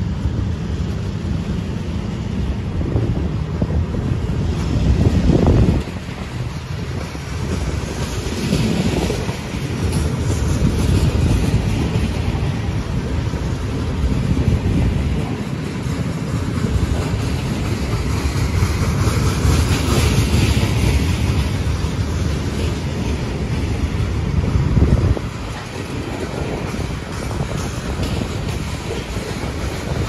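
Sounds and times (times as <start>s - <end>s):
steel wheels rolling on rails: 0.0s - 30.0s.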